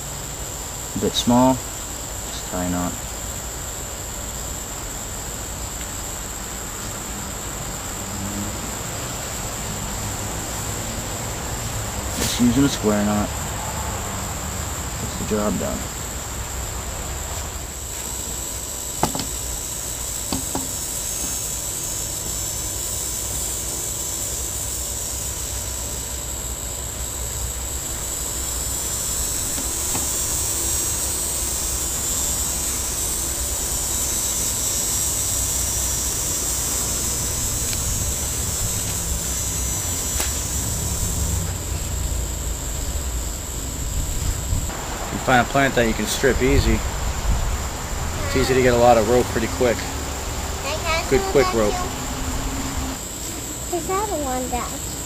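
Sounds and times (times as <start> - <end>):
high-pitched insect drone: 0.0 - 55.0.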